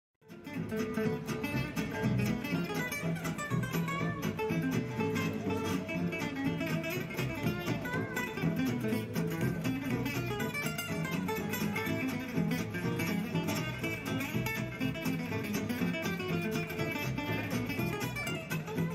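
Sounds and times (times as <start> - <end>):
flamenco acoustic guitar: 0.2 - 18.9.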